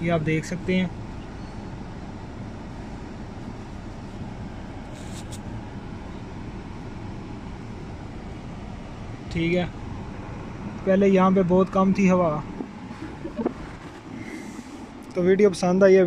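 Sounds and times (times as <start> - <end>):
car engine idling: 0.0 - 15.9
car blower air rushing: 1.8 - 15.1.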